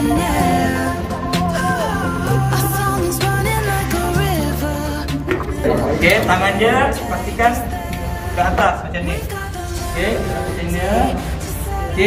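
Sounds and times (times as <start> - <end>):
gliding melody: 0.0 - 12.0
held bass notes: 0.0 - 12.0.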